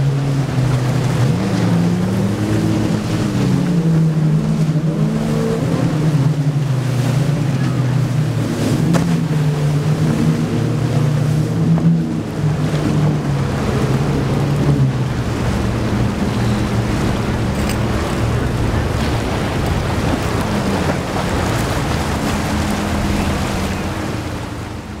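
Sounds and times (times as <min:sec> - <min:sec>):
outboard engines droning: 0:00.0 - 0:25.0
spray and waves rushing: 0:00.0 - 0:25.0.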